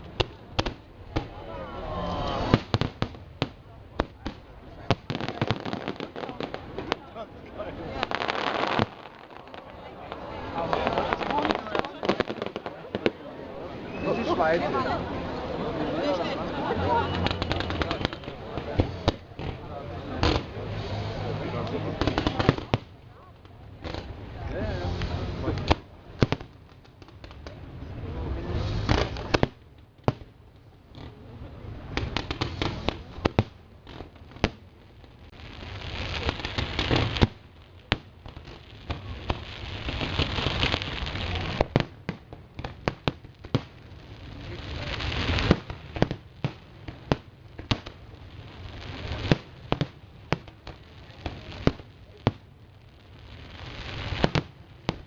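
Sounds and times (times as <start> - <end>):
hissing crackle of fireworks: 0.0 - 55.0.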